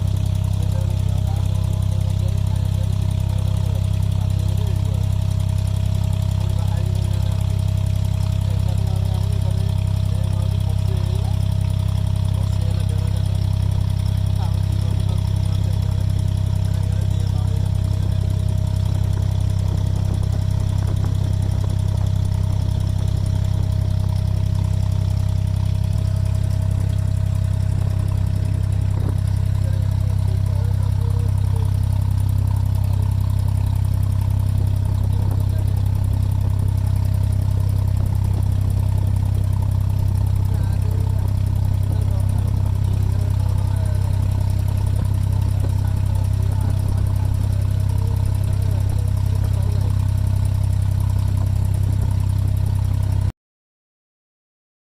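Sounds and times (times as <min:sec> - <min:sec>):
boat engine humming: 0:00.0 - 0:53.3.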